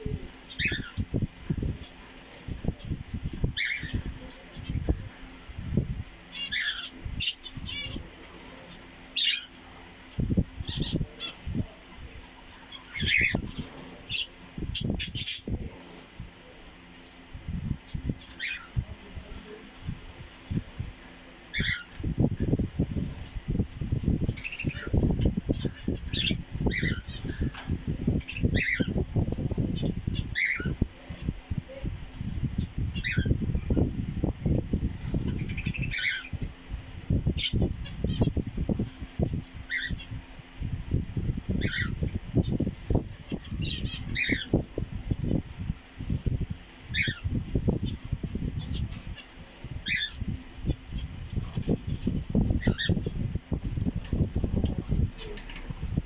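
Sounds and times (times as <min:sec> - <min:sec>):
birds chirping: 0:00.0 - 0:56.0
wings fluttering: 0:00.0 - 0:56.0.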